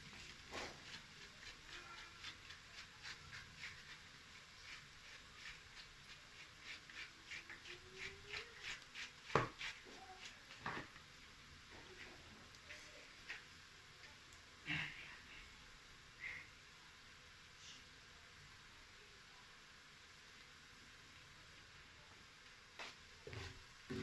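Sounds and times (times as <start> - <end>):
onions frying in oil: 0.0 - 24.0.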